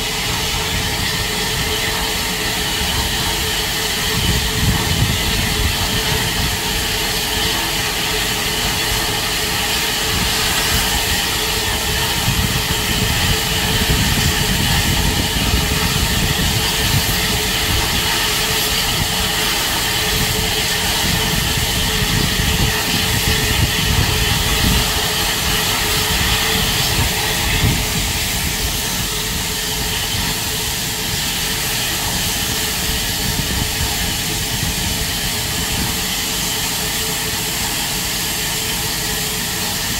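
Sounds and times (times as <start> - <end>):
steam hissing: 0.0 - 39.9.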